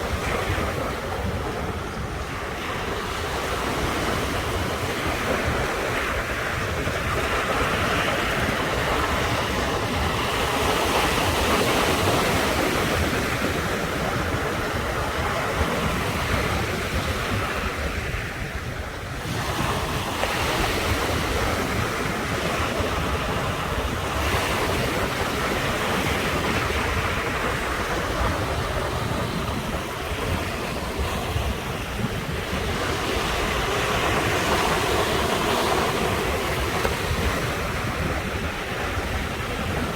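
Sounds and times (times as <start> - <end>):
sea surf washing ashore: 0.0 - 39.9
wind buffeting microphone: 0.0 - 39.9.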